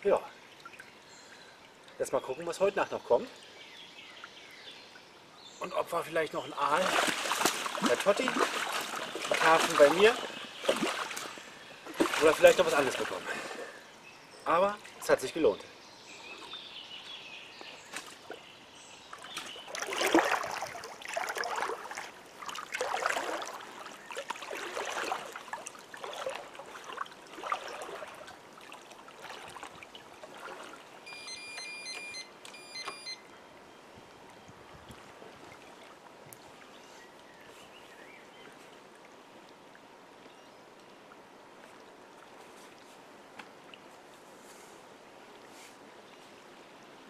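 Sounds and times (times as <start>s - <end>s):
lake water sloshing and splashing: 0.0s - 33.2s, 34.2s - 46.7s.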